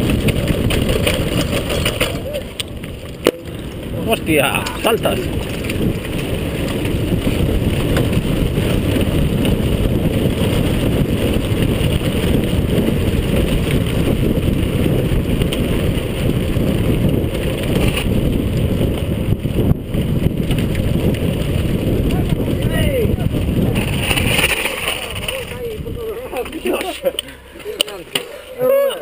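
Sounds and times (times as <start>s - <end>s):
bike rattling on rough track: 0.0s - 29.0s
wind buffeting microphone: 0.0s - 29.0s.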